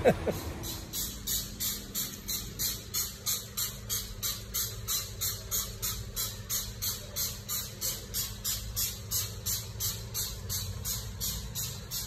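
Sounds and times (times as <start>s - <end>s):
cicadas chirping: 0.2s - 12.0s.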